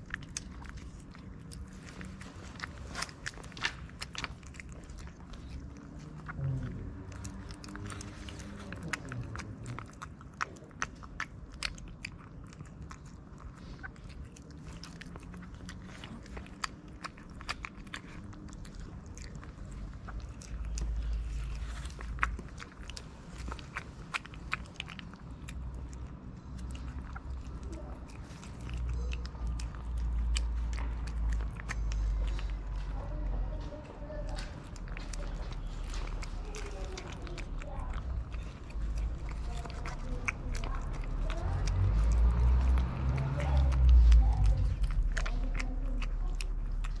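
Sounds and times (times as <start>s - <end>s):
cat chewing wet food: 0.0s - 47.0s.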